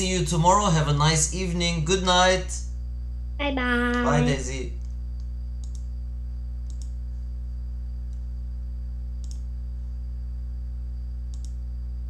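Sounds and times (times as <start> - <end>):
faint high whine: 0.0 - 12.0
steady low hum: 0.0 - 12.0.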